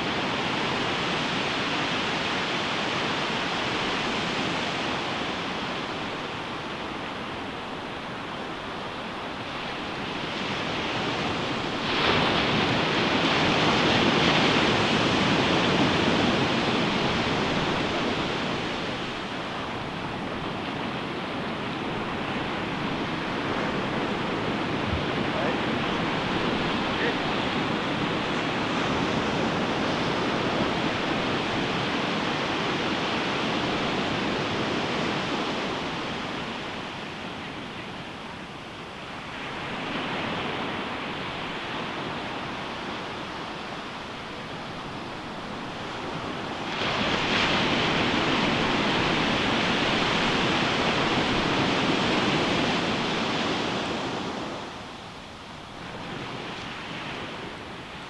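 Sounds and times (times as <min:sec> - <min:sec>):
ocean surf: 0:00.0 - 0:58.0.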